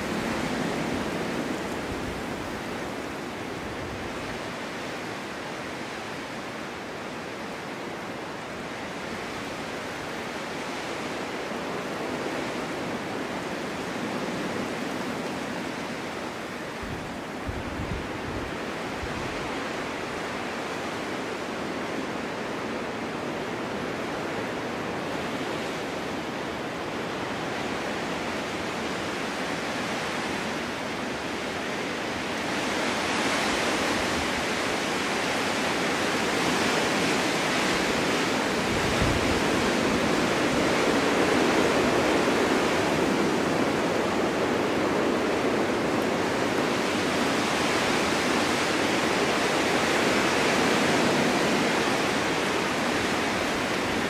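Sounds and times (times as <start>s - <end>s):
low wind buffet: 0.0s - 54.0s
wind blowing hard: 0.0s - 54.0s.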